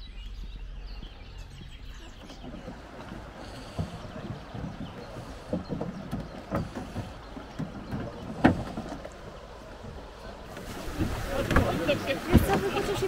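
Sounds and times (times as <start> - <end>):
knocks and thumps on wooden raft: 2.1 - 13.0.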